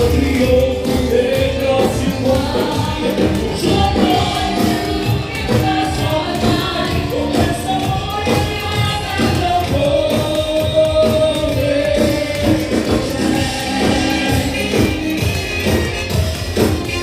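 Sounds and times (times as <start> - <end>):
dance music with singing: 0.0 - 17.0.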